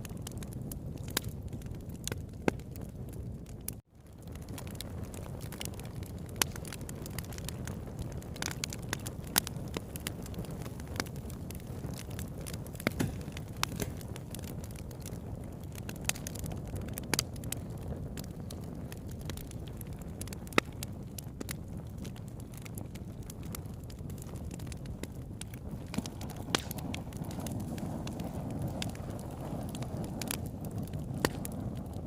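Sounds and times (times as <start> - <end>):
burning wood crackling and popping: 0.0 - 32.0
campfire flames rumbling: 0.0 - 32.0.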